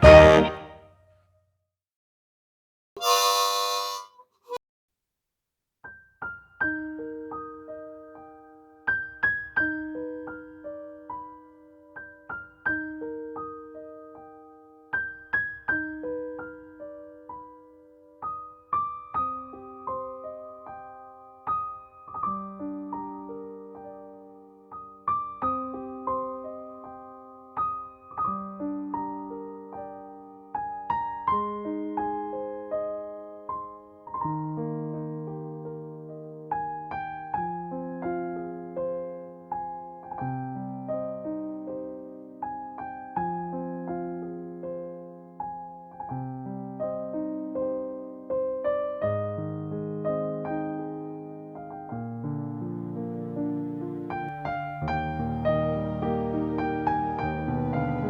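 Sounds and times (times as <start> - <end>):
slow solo piano: 5.8 - 58.0.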